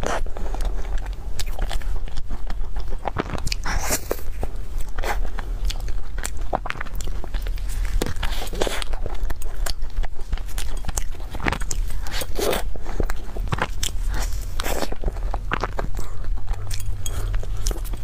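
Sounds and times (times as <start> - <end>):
crunchy pastry bites and chewing: 0.0 - 18.0
steady low hum: 0.0 - 18.0.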